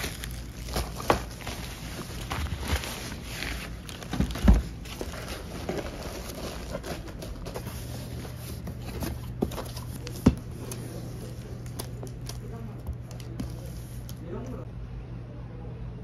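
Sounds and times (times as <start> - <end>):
cardboard boxes being folded: 0.0 - 14.3
plastic bags rustling: 0.0 - 14.4.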